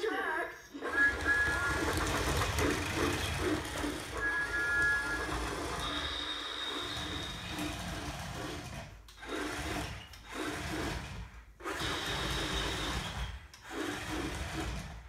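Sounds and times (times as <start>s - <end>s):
toy engines whirring: 0.7s - 15.0s.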